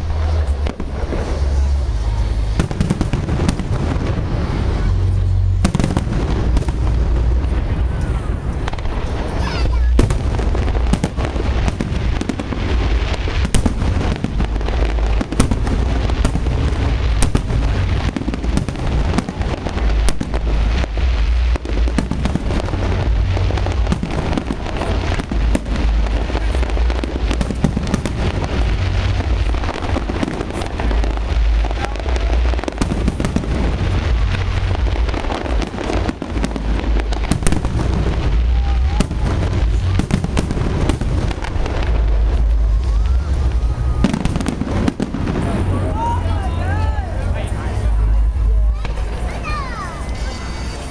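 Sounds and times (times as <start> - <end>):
fireworks booming: 0.0 - 50.9
fireworks cracks and crackles: 0.0 - 50.9.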